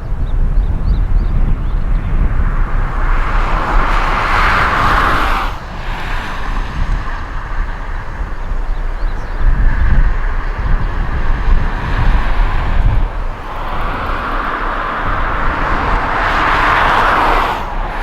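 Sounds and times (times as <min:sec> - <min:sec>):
jet engine noise: 0:00.0 - 0:18.0
wind buffeting microphone: 0:00.0 - 0:18.0.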